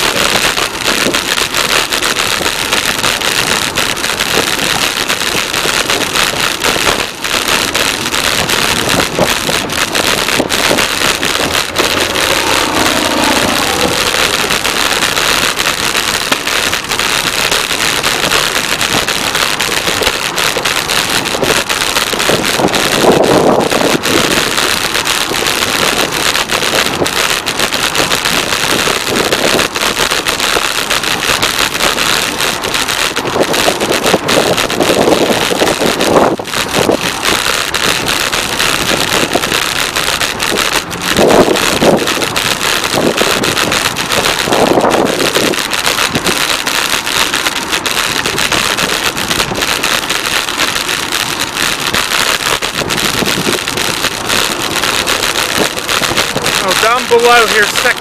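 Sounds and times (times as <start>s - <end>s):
wind rushing over microphone: 0.0s - 58.0s
highway traffic: 6.3s - 35.0s, 35.8s - 58.0s.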